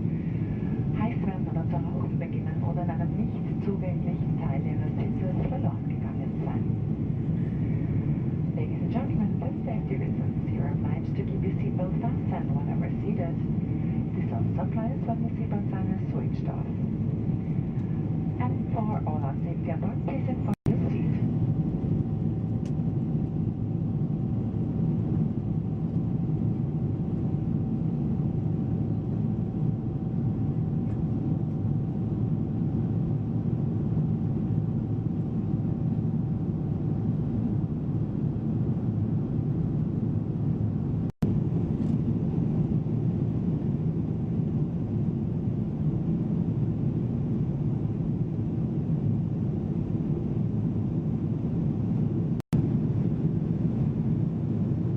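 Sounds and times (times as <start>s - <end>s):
airliner cabin low roar: 0.0s - 54.9s.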